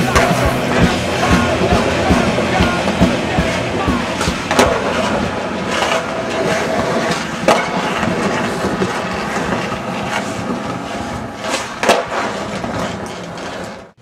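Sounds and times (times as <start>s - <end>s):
skateboard wooden clacks: 0.0s - 13.9s
skateboard wheels rolling on pavement: 0.0s - 14.0s.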